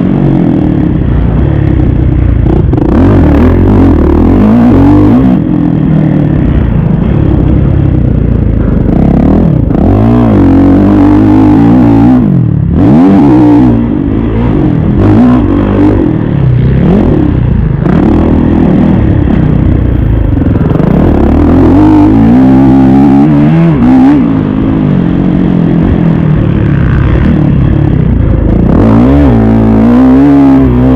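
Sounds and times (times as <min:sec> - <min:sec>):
motocross bike engine revving: 0:00.0 - 0:30.9.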